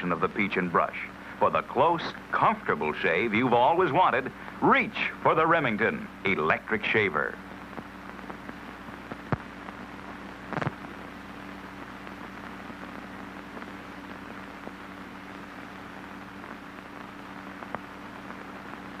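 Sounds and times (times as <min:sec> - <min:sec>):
crackles and pops: 0:00.0 - 0:19.0
film soundtrack hiss and hum: 0:00.0 - 0:19.0.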